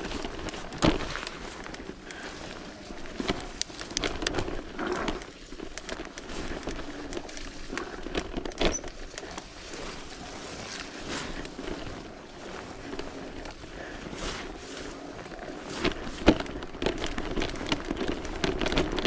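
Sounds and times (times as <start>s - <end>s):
bike rattling and clicking: 0.0s - 19.0s
bike tyres rolling on mud: 0.0s - 19.0s.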